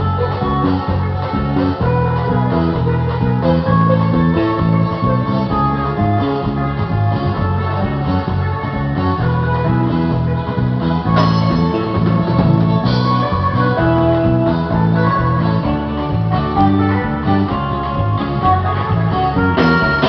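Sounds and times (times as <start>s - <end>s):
electric guitar band playing: 0.0s - 20.0s.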